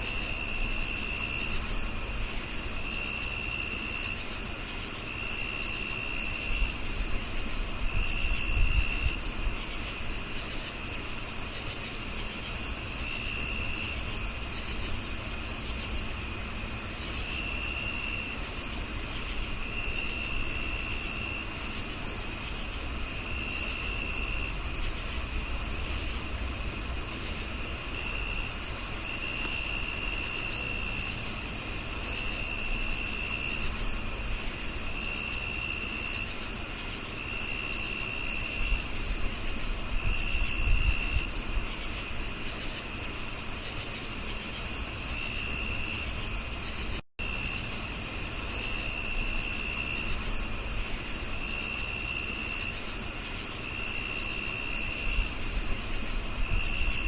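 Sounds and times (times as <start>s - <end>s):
cricket chirping: 0.0s - 57.0s
crickets trilling: 0.0s - 57.0s
lower cricket trill: 0.0s - 57.0s.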